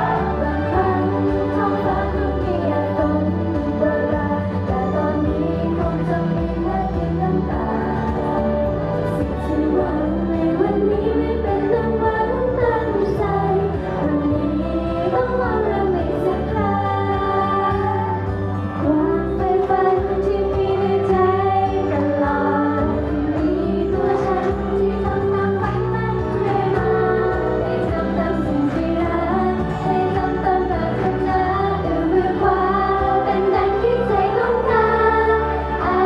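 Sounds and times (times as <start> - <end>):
backing music through speakers: 0.0 - 36.0
women singing into microphones: 0.0 - 36.0.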